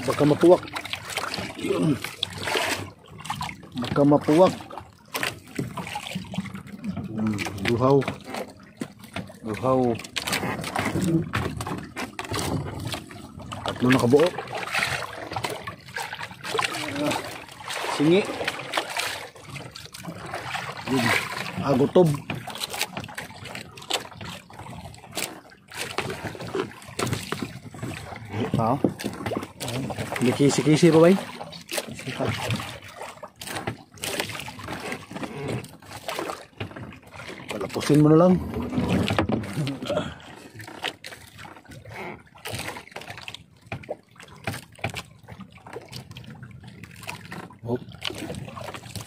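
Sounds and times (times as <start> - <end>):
water dripping and splashing: 0.0 - 49.0.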